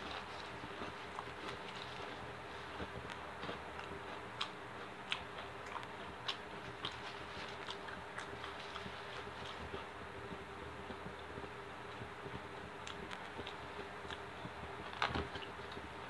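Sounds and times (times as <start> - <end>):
close chewing of food: 0.0 - 16.0
faint steady hum: 0.0 - 16.0.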